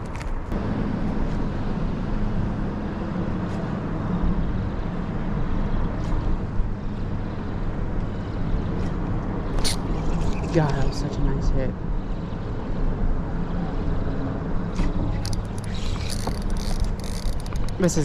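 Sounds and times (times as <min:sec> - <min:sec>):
rushing wind and water: 0:00.0 - 0:18.0
steady low hum: 0:00.0 - 0:18.0.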